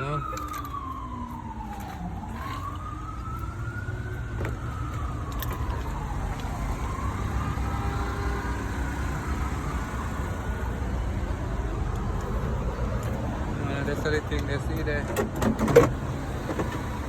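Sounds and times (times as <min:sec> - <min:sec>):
emergency siren wailing: 0:00.0 - 0:14.7.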